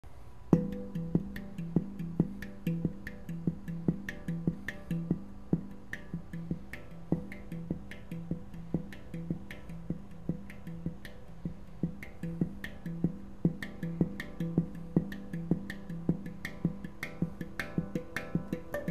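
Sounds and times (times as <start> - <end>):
handpan played by hand: 0.5 - 18.9.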